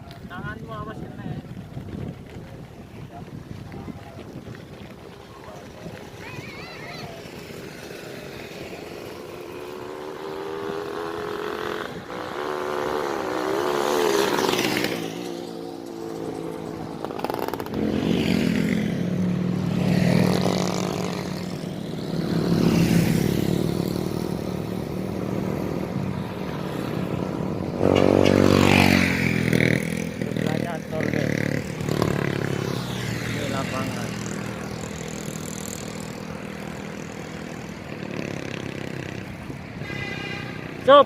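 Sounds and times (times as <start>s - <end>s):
motorcycles passing: 0.0s - 41.0s.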